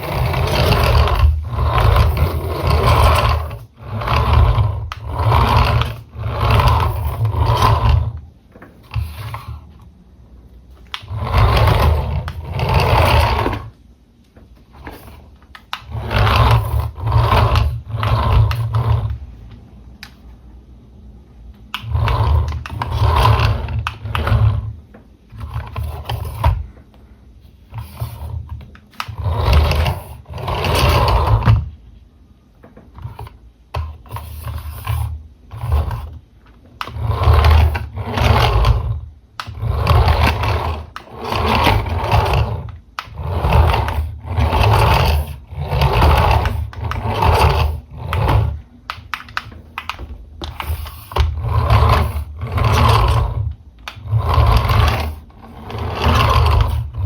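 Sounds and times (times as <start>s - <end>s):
toy car motor whirring: 0.0s - 8.2s, 8.8s - 9.7s, 10.9s - 13.8s, 14.7s - 19.2s, 21.7s - 24.8s, 27.7s - 31.7s, 33.0s - 36.2s, 36.8s - 57.0s.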